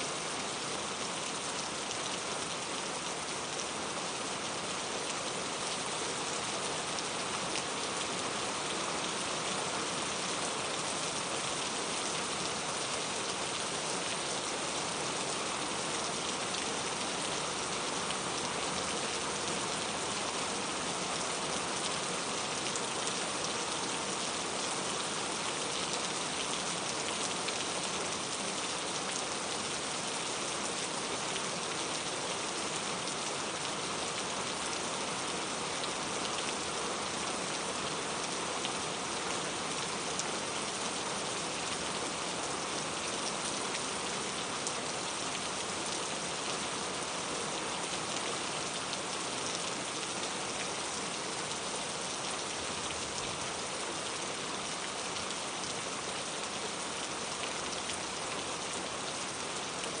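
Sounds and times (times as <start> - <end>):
steady rain pattering: 0.0 - 60.0.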